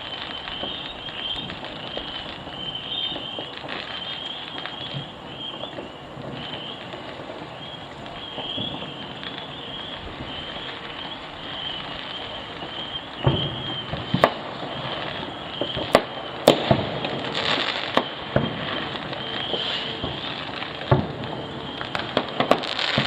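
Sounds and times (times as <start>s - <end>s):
distant fireworks bangs: 0.0s - 23.0s
firework hiss: 0.0s - 23.0s.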